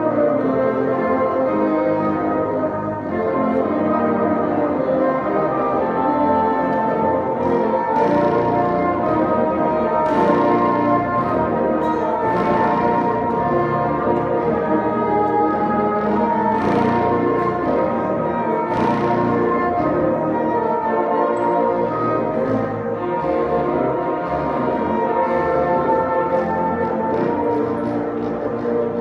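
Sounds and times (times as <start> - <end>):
bassoon ensemble playing chords: 0.0 - 29.0.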